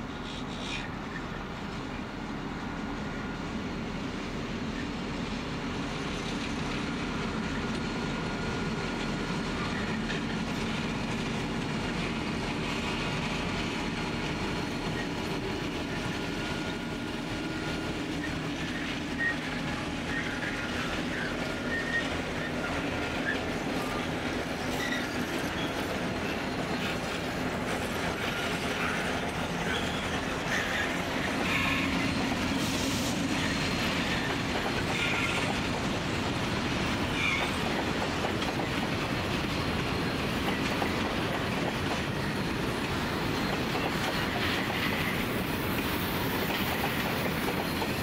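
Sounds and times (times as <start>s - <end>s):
diesel locomotive engines: 0.0s - 48.0s.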